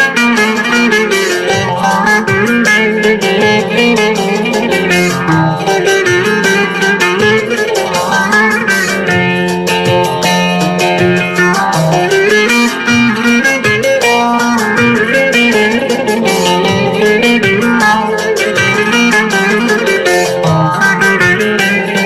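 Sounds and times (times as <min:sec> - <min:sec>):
plucked string melody: 0:00.0 - 0:22.0
steady rhythmic beat: 0:00.0 - 0:22.0.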